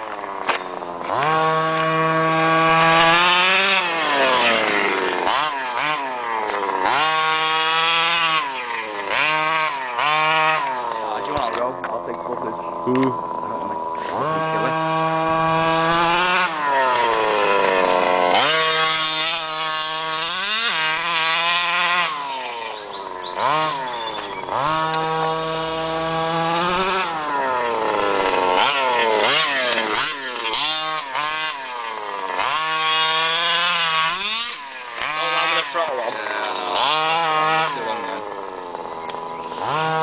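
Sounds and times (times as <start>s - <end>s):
two-stroke engine revving: 0.0s - 40.0s.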